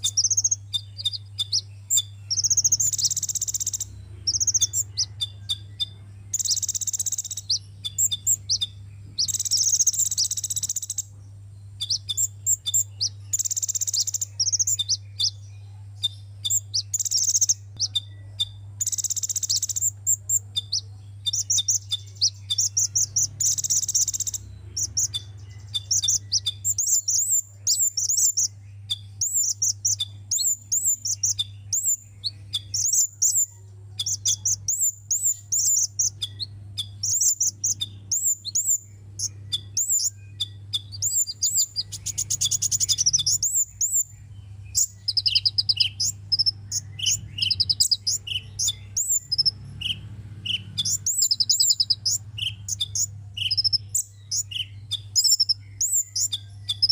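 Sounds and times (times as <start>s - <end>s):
bird twittering and chirping: 0.0s - 56.9s.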